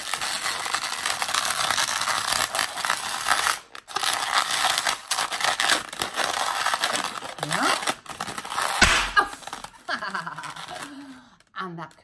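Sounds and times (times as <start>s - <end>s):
balloon rubbing and squeaking: 0.0s - 10.9s.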